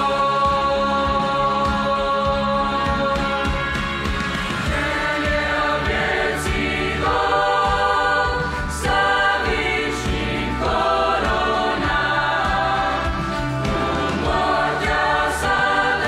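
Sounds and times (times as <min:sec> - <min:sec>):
youth choir singing a hymn: 0:00.0 - 0:16.0.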